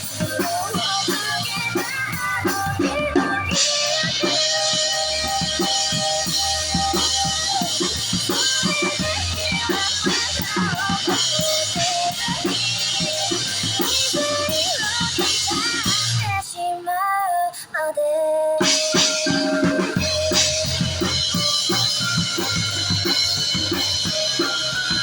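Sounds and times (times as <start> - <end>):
sung melody: 0.0 - 16.3, 18.6 - 25.0
bass: 0.0 - 16.4, 18.6 - 25.0
drum kit beat: 0.0 - 16.4, 18.6 - 25.0.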